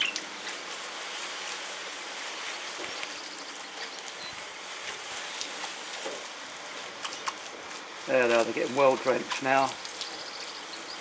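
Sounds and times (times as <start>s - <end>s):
hose spraying water: 0.0s - 11.0s.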